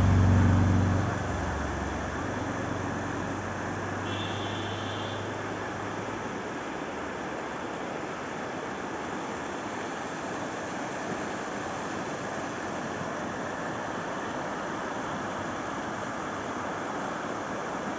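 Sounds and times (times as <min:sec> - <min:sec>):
rushing river water: 0:00.0 - 0:17.9.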